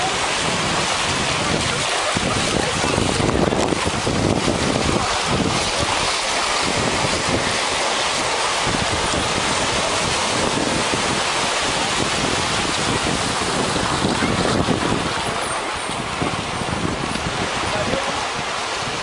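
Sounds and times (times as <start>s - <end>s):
small waves breaking on beach: 0.0s - 19.0s
wind buffeting microphone: 0.0s - 19.0s.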